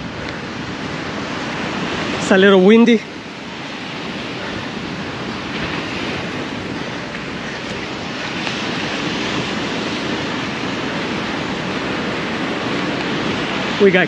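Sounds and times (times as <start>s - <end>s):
ocean surf on beach: 0.0s - 14.0s
wind buffeting microphone: 0.0s - 14.0s.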